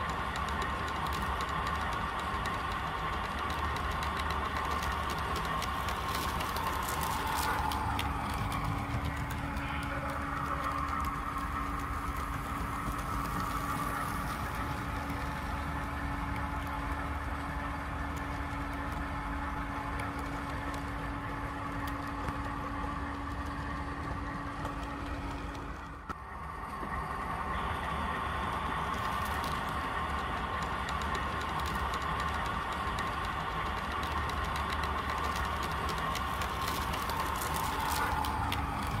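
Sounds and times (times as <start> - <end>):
model train mechanical hum: 0.0 - 39.0.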